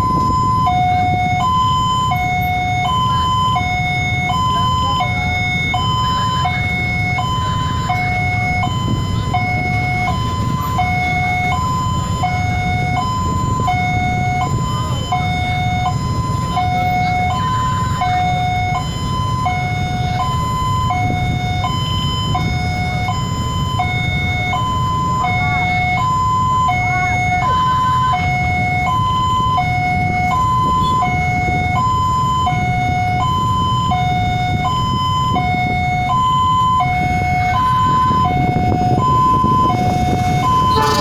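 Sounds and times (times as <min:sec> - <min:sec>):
road traffic rumble: 0:00.0 - 0:41.0
two-tone crossing alarm: 0:00.0 - 0:41.0.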